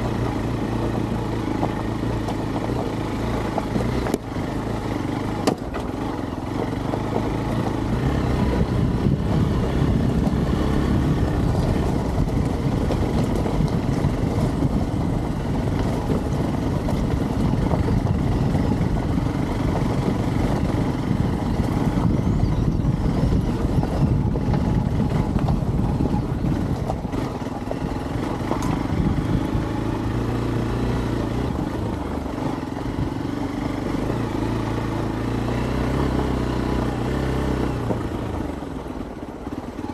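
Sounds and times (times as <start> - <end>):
motorcycle engine running off-road: 0.0 - 39.9.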